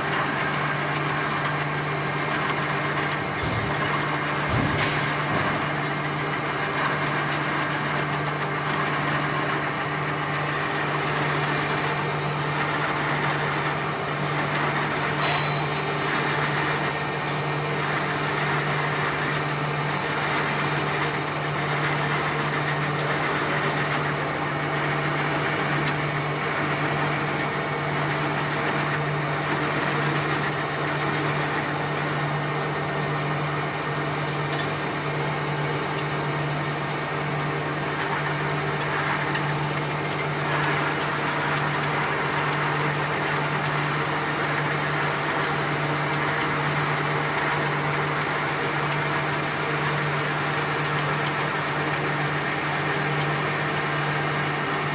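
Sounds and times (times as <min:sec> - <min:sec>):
machinery low hum: 0:00.0 - 0:54.9
machinery whirring: 0:00.0 - 0:54.9.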